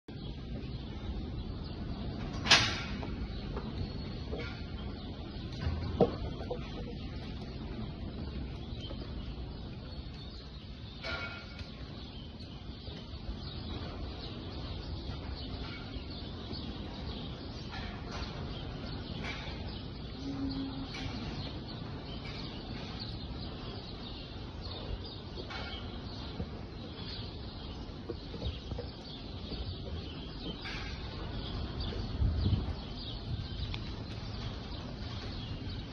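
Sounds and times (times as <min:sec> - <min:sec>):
steady background noise: 0:00.1 - 0:35.9.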